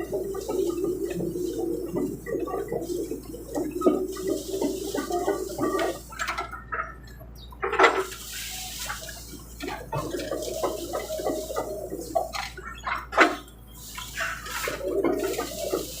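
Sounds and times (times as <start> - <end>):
excavator engine drone: 0.0 - 16.0.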